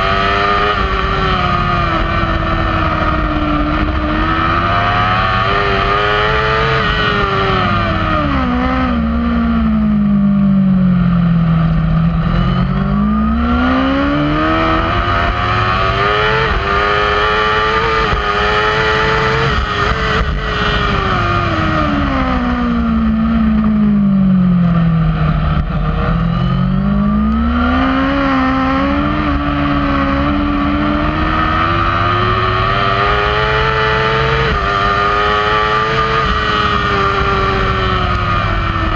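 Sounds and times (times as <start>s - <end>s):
rush of wind noise: 0.0s - 10.1s, 11.3s - 38.9s
motorcycle engine revving: 0.0s - 38.9s.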